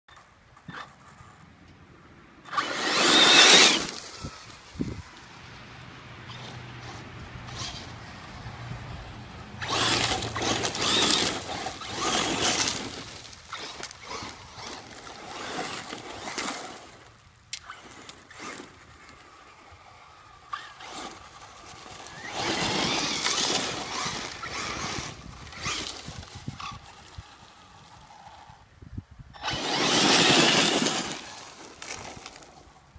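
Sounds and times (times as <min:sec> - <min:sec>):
gravel clicks: 0:02.4 - 0:08.9, 0:09.5 - 0:28.7, 0:29.3 - 0:32.9
tyres spinning and spraying gravel: 0:02.5 - 0:08.6, 0:09.5 - 0:28.6, 0:29.4 - 0:32.9.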